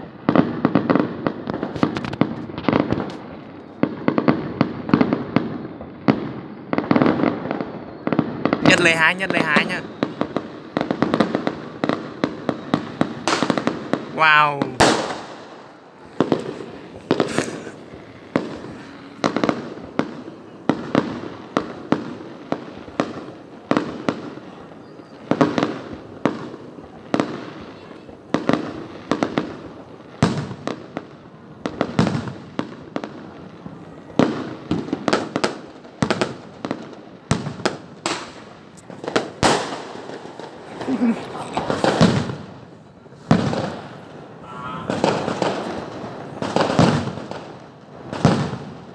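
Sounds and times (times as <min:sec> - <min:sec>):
fireworks bursting with echoing bangs: 0:00.0 - 0:48.9.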